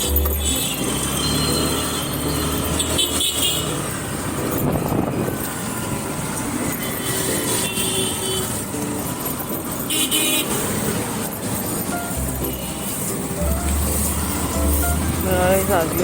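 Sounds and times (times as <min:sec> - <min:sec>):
passing vehicles: 0:00.0 - 0:16.0
scooter engine and road noise: 0:00.0 - 0:16.0.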